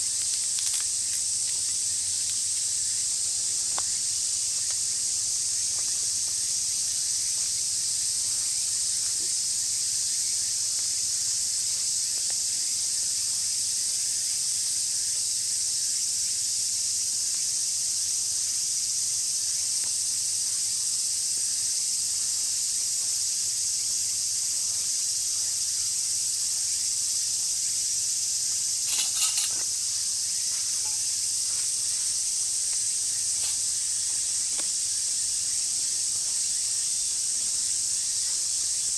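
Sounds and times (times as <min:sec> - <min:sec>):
shrill insect chorus: 0:00.0 - 0:38.9.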